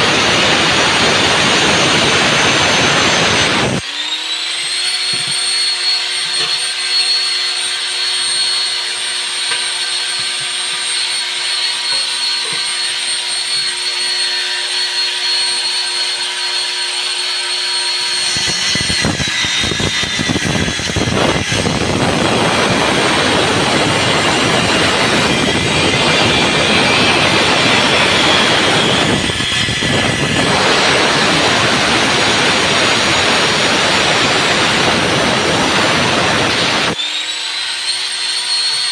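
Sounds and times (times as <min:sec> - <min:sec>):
angle grinder whining: 0:00.0 - 0:38.9
grinder disc grinding metal: 0:00.0 - 0:38.9.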